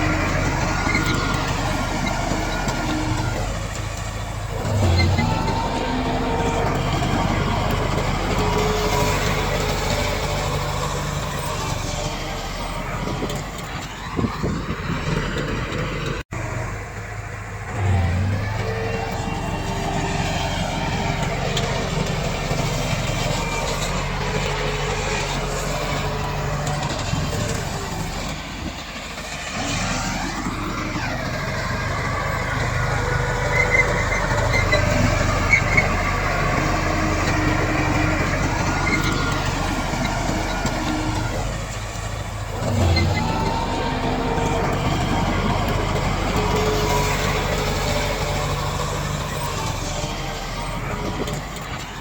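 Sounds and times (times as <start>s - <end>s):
bulldozer diesel engine under load: 0.0s - 52.0s.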